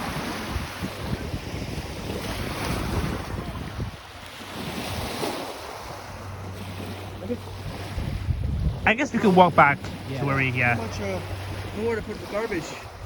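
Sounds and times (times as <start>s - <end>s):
waves washing onto rocky shore: 0.0s - 13.0s
wind rumbling on microphone: 0.0s - 13.0s.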